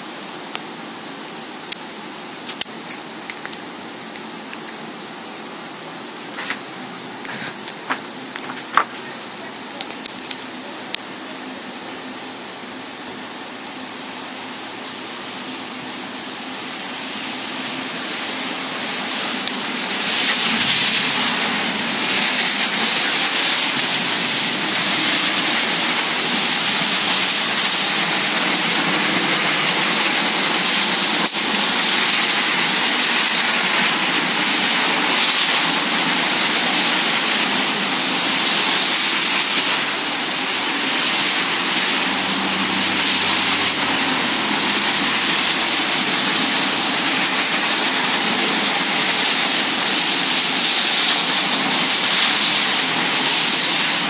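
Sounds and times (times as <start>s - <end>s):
heavy rain: 0.0s - 54.0s
wind rushing through trees: 0.0s - 54.0s.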